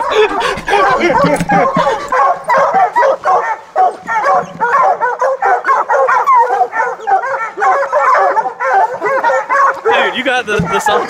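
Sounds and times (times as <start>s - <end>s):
hounds baying and barking: 0.0s - 11.0s.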